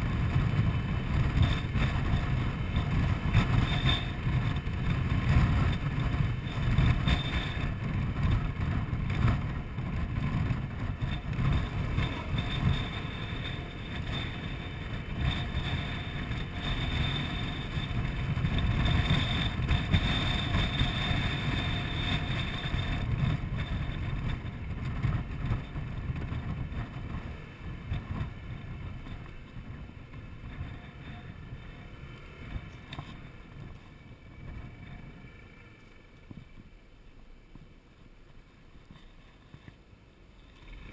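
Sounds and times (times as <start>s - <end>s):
wind over microphone: 0.0s - 36.8s
scooter road rumble: 0.0s - 40.9s.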